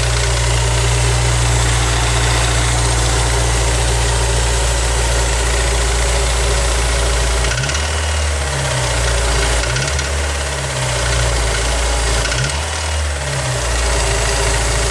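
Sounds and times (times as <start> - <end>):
rattling engine idling and revving: 0.0 - 14.9.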